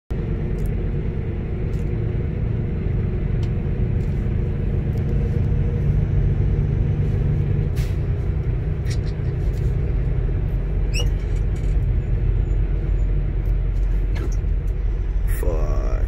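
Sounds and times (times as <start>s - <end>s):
diesel truck engine drone: 0.1s - 16.0s.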